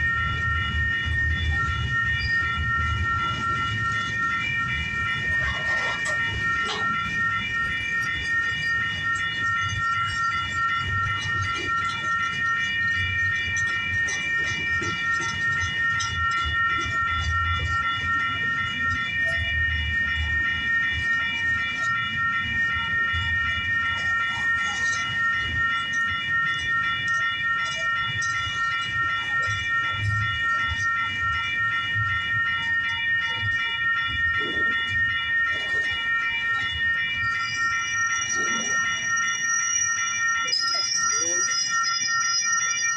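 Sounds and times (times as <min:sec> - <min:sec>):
crossing warning bell ringing: 0:00.0 - 0:42.9.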